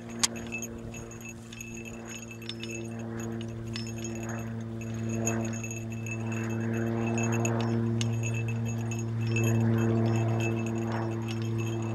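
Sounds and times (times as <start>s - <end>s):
metal chains jingling: 0.0s - 11.9s
steady low hum: 0.0s - 11.9s.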